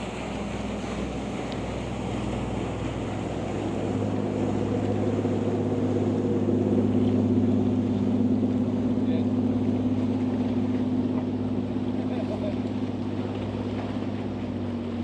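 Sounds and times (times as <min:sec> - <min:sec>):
motorboat engine drone: 0:00.0 - 0:15.0
surf: 0:00.0 - 0:15.0
wind: 0:00.0 - 0:15.0.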